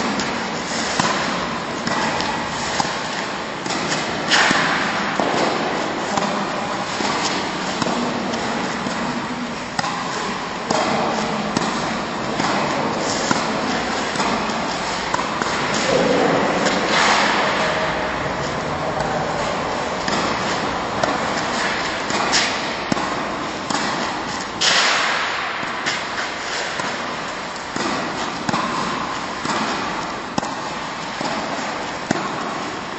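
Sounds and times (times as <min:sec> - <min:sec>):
racket hitting tennis ball: 0:00.0 - 0:32.9.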